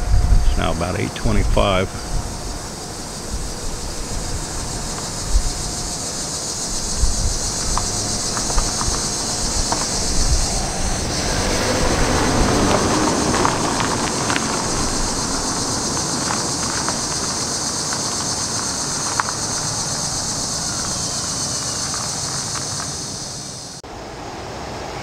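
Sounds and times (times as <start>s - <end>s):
loud low rumble: 0.0s - 21.9s
insect chorus: 0.0s - 25.0s.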